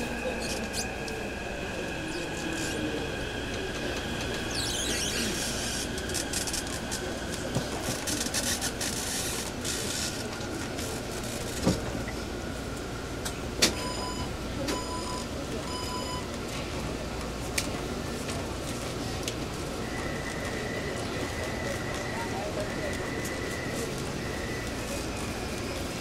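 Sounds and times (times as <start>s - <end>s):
metro car rumble: 0.0s - 26.0s.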